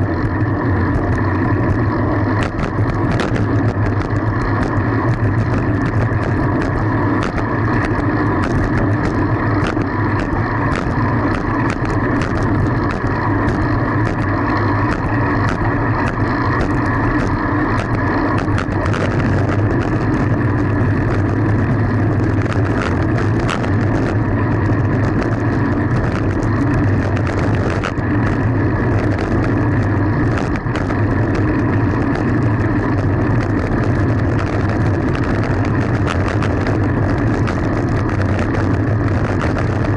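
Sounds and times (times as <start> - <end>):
bicycle clicks and rattles: 0.0 - 39.9
road and wind noise: 0.0 - 39.9.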